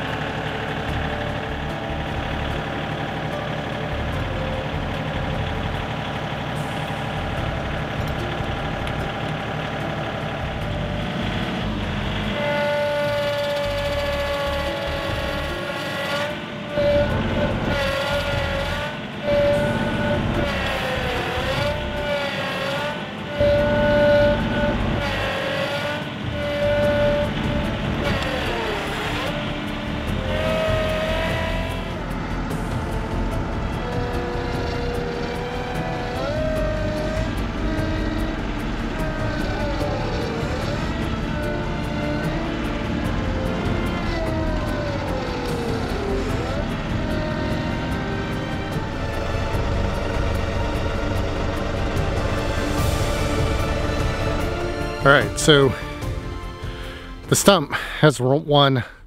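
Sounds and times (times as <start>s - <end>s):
tractor engine straining: 0.0s - 59.0s.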